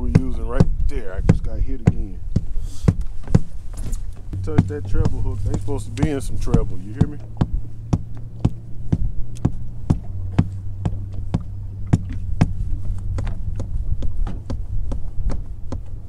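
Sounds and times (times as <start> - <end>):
steady low hum: 0.0 - 16.0
tapping on boat floor: 0.0 - 16.0.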